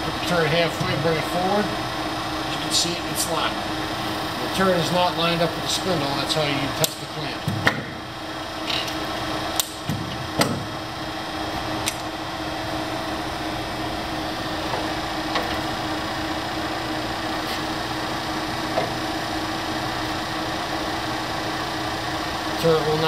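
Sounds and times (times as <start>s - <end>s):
lathe humming: 0.0s - 23.0s.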